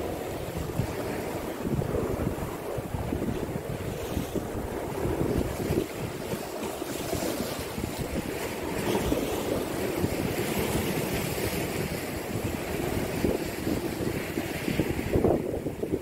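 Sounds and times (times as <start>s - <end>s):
waves breaking against seawall: 0.0s - 16.0s
wind buffeting microphone: 0.0s - 16.0s.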